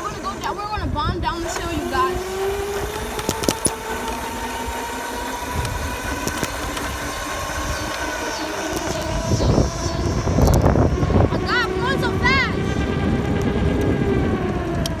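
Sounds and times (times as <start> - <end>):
sharp clicks: 0.0 - 12.5, 13.4 - 15.0
dirt bike engine running: 0.0 - 15.0
low rumble: 0.0 - 15.0.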